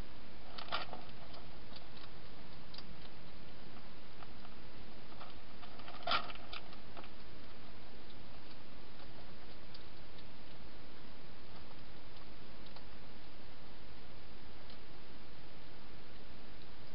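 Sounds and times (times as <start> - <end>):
steady hiss: 0.0 - 16.9.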